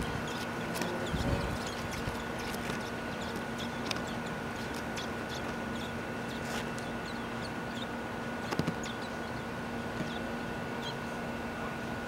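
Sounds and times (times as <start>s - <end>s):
steady hum: 0.0s - 12.0s
high bird chirps: 0.2s - 11.0s.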